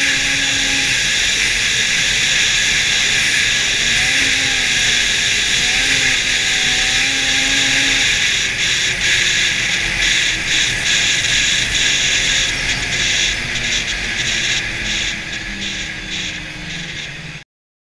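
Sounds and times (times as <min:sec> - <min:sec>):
snowmobile engine: 0:00.0 - 0:17.4
wind and track hiss: 0:00.0 - 0:17.4.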